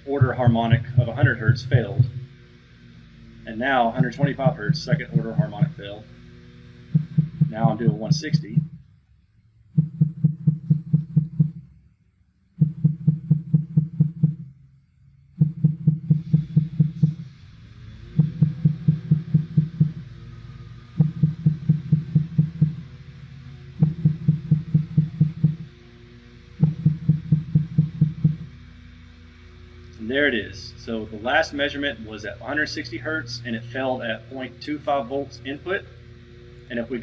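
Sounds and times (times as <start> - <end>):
subwoofer tone bursts: 0.0 - 37.0.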